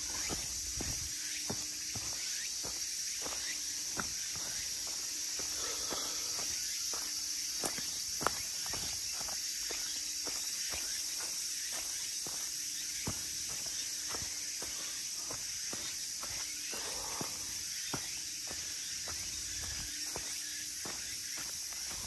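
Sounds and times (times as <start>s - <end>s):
footsteps on a hill trail: 0.0s - 22.0s.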